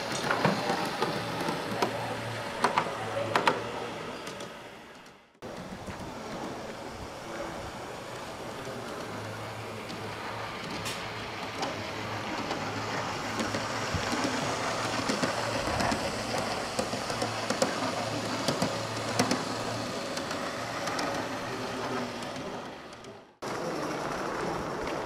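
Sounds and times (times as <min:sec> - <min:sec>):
model train rolling on track: 0:00.0 - 0:25.0
wheels clicking over rail joints: 0:00.0 - 0:25.0.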